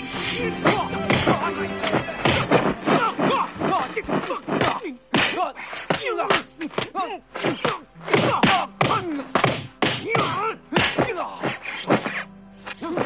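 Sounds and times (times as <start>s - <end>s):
fighters grunting and yelling: 0.2s - 13.0s.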